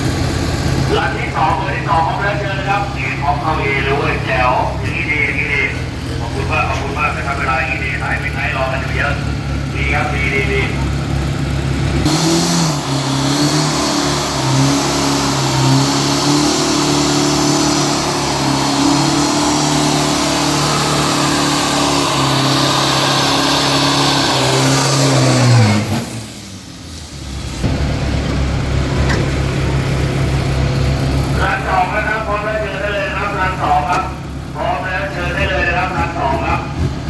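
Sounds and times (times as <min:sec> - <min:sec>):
diesel truck engine at full throttle: 0:00.0 - 0:37.0
steady lower engine sound: 0:00.0 - 0:37.0.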